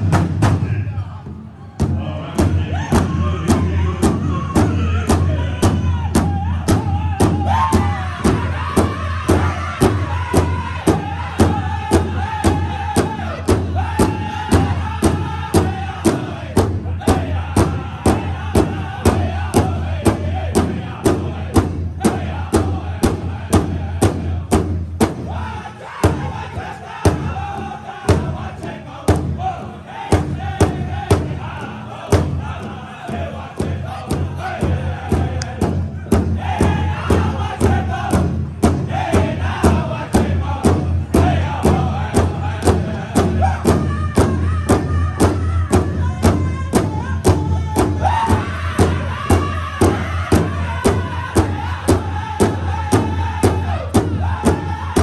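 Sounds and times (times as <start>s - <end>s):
large hide drum beating: 0.0s - 55.0s
group singing in high voices: 1.9s - 55.0s.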